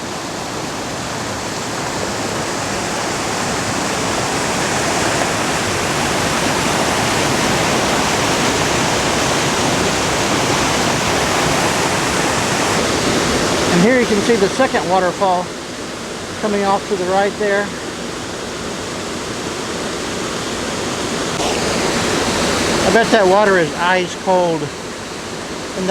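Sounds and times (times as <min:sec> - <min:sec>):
rushing waterfall and brook: 0:00.0 - 0:25.9.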